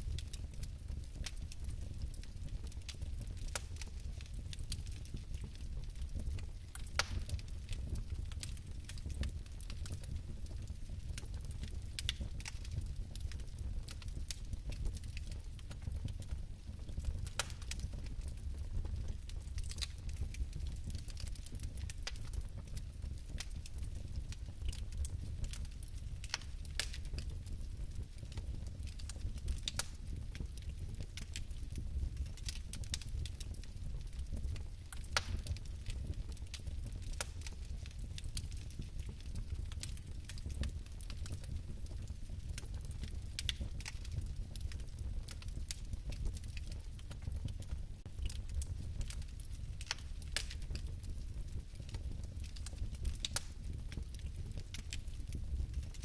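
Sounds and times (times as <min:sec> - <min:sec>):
fire crackles and pops: 0:00.0 - 0:56.0
fireplace flames rumbling: 0:00.0 - 0:56.0.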